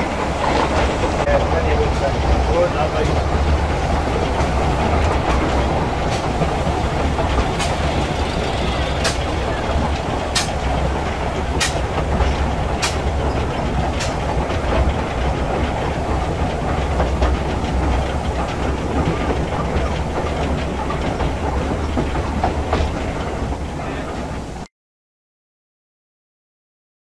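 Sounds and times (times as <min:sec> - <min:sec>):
wheels clicking over rail joints: 0:00.0 - 0:24.6
steam locomotive rumble: 0:00.0 - 0:24.7.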